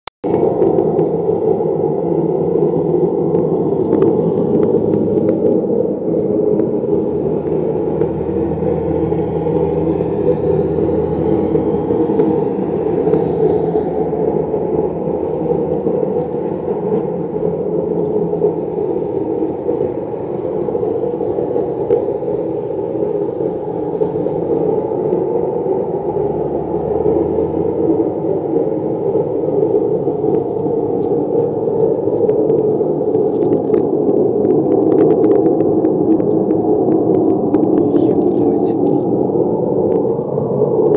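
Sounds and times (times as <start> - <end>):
deep hum: 0.2 - 40.9
low droning rumble: 0.2 - 40.9.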